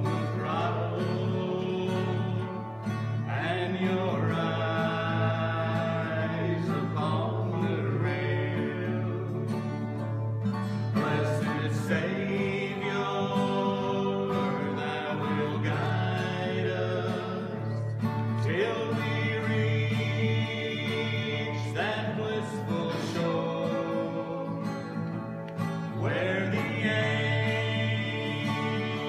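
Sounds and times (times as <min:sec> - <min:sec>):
acoustic guitars strumming: 0:00.0 - 0:29.0.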